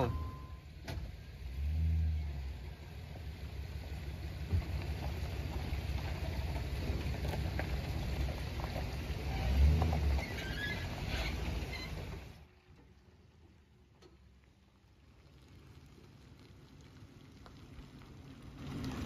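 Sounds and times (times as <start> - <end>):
pickup truck engine rumble: 0.0 - 19.0.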